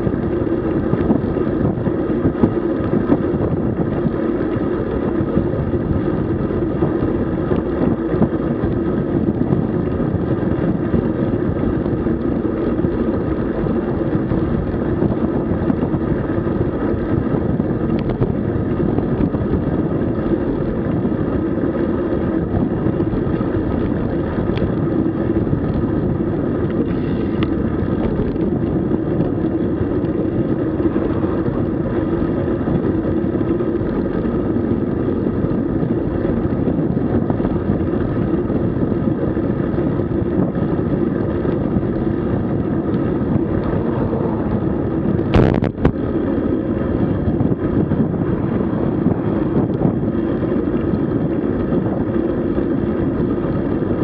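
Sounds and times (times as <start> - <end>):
bicycle tyre road noise: 0.0 - 54.0
wind on microphone: 0.0 - 54.0.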